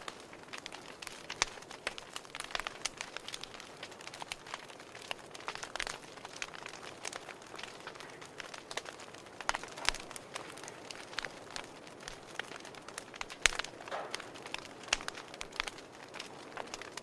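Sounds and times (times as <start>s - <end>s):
fire popping: 0.0s - 17.0s
soft steady hiss: 0.0s - 17.0s
wood fire crackling: 0.0s - 17.0s.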